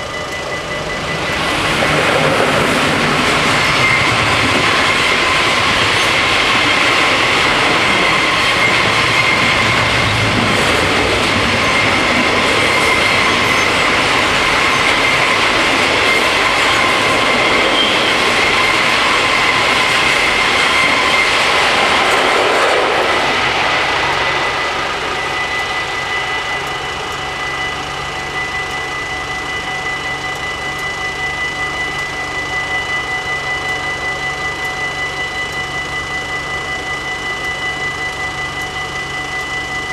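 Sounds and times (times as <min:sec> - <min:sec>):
crossing warning bells ringing: 0:00.0 - 0:39.9
train wheels rumbling and squealing: 0:00.0 - 0:39.9.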